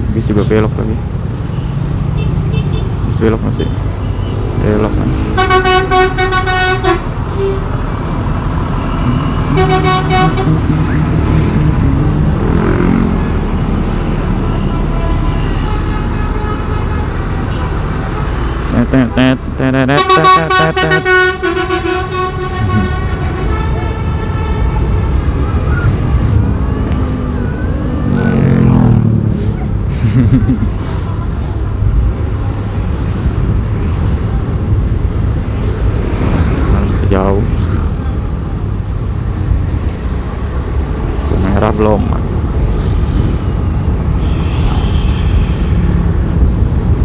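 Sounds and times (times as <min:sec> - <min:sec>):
traffic: 0:00.0 - 0:47.0.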